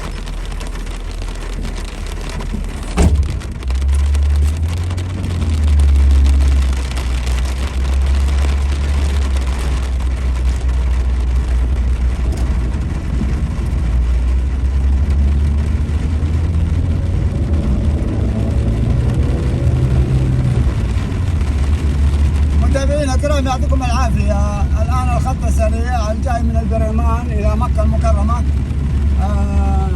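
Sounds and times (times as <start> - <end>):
car engine and road rumble: 0.0 - 29.9
rain and tyre spray hiss: 0.0 - 29.9.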